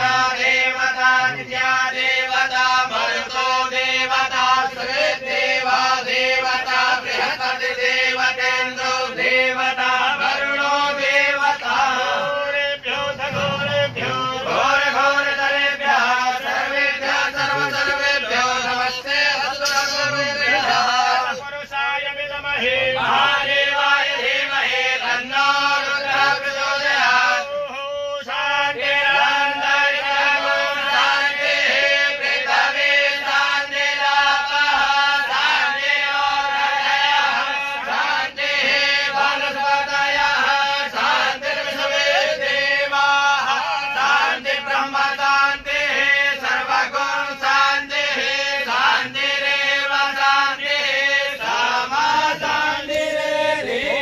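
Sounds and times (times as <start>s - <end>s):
men chanting: 0.0s - 54.0s.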